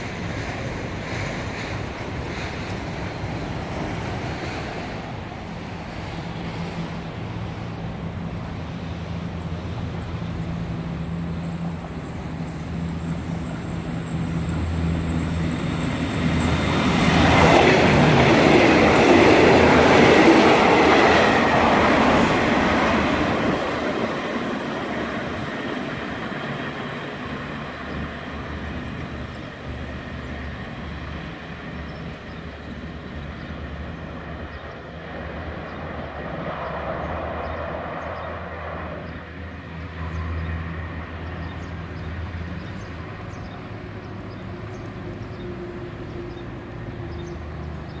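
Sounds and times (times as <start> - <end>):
diesel train rumbling: 0.0 - 48.0.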